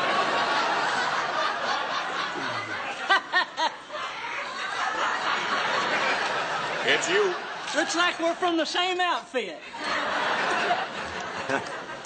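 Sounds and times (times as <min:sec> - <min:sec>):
audience laughing: 0:00.0 - 0:08.8, 0:09.6 - 0:12.0.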